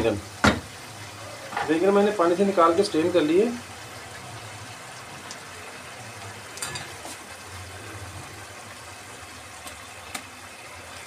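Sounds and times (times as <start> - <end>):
gravy sizzling in a pan: 0.0 - 11.0.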